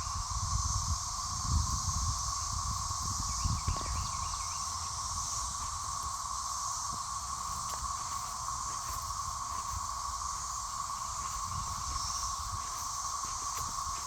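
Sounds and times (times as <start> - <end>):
cicadas droning: 0.0 - 14.0.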